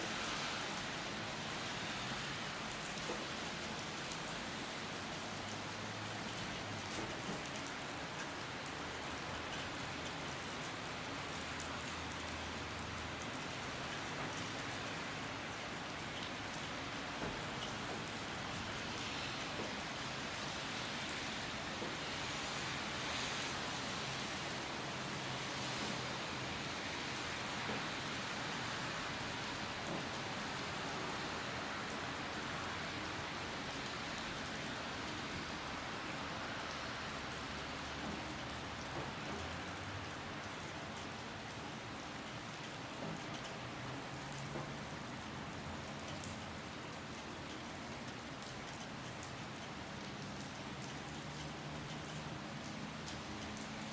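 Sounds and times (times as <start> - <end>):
raindrops ticking on surfaces: 0.0 - 53.9
steady rain hiss: 0.0 - 53.9.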